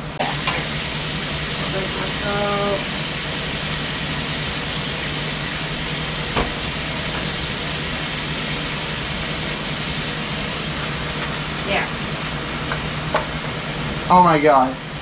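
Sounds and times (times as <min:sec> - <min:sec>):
fan humming: 0:00.0 - 0:15.0
steak sizzling in a frying pan: 0:00.2 - 0:15.0.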